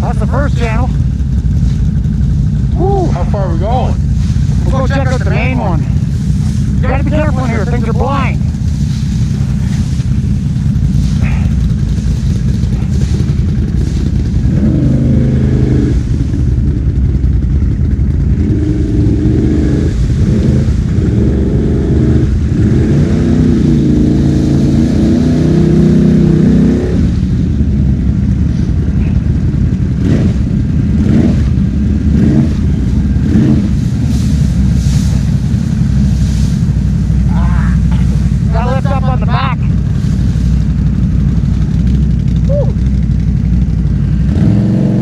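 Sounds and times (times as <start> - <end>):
atv engines revving: 0.0 - 45.0.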